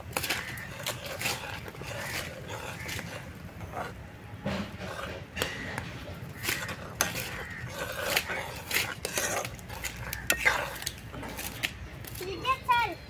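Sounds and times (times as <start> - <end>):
metal spatula scraping cooking pot: 0.0 - 11.8.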